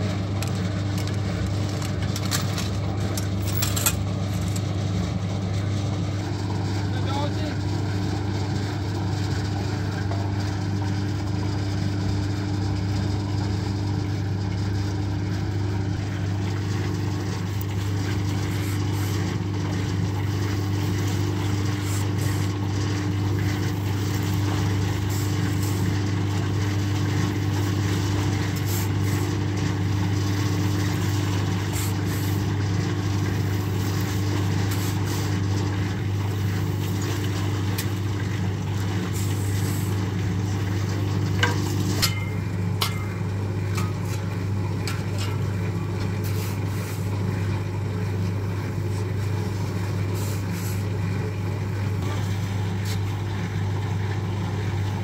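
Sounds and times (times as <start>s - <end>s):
concrete mixer humming: 0.0s - 55.0s.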